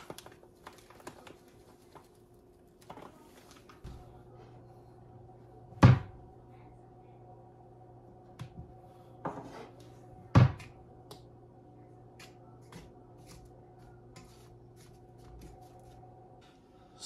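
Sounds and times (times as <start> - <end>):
steady low hum: 1.6 - 17.0.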